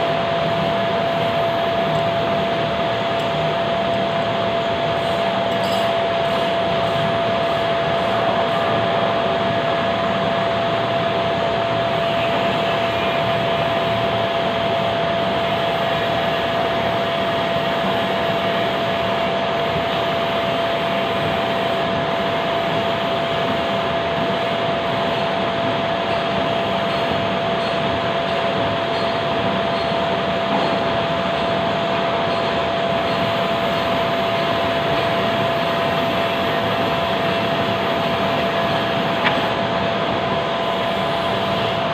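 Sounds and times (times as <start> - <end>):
lathe running with whine: 0.0 - 41.9.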